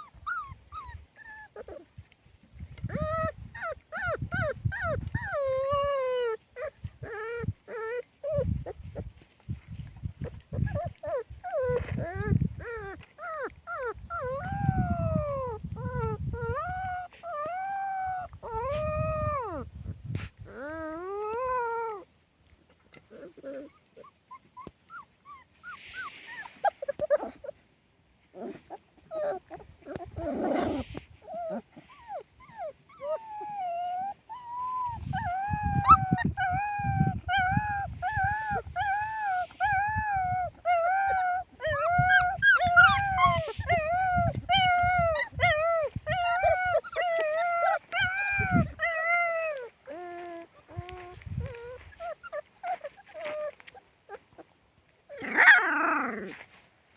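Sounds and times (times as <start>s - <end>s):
puppies whimpering and whining: 0.0s - 56.7s.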